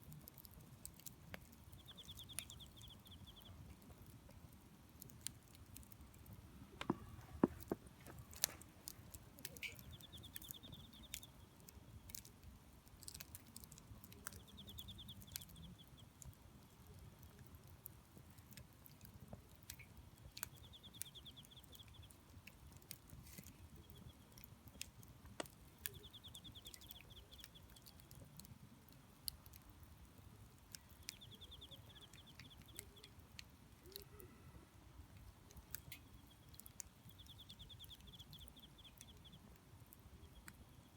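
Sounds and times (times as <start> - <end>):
wood fire crackling and popping: 0.0 - 34.2.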